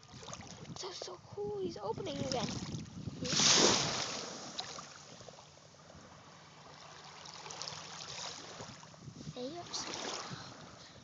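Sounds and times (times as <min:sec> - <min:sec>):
shallow water lapping at shore: 0:00.0 - 0:11.0.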